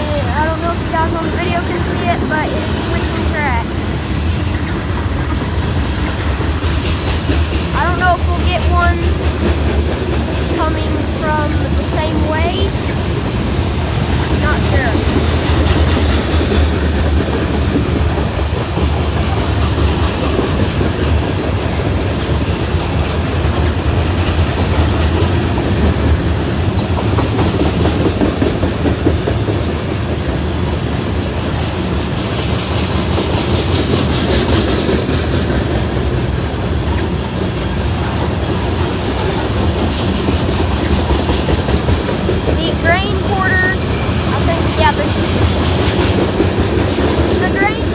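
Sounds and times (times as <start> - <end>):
freight train rolling by: 0.0 - 47.9
wheels clacking over rail joints: 0.0 - 47.9.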